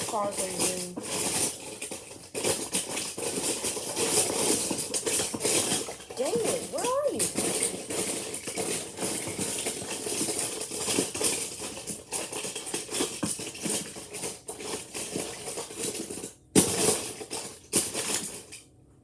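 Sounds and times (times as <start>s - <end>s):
toy cars rattling and clinking: 0.0s - 18.7s.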